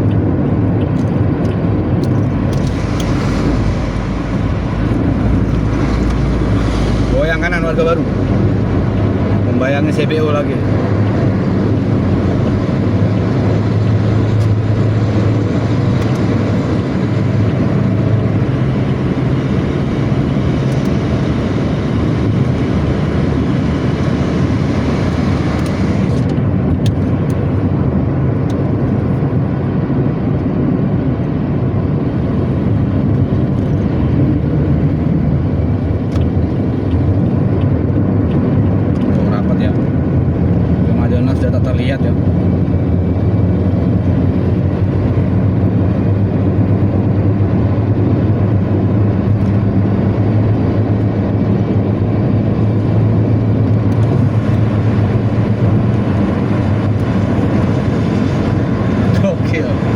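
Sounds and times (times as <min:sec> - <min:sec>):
bus diesel engine drone: 0:00.0 - 0:59.9
road and traffic noise: 0:00.0 - 0:59.9.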